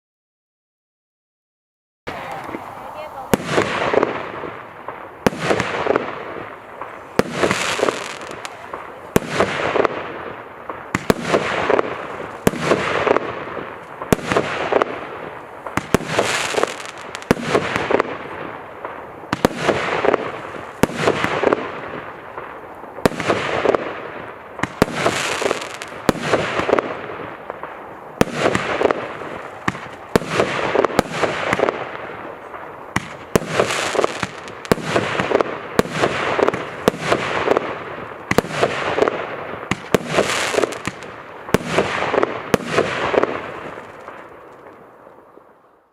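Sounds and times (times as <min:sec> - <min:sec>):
firework launch bangs: 0:02.1 - 0:44.3
crackling firework bursts: 0:02.1 - 0:45.9.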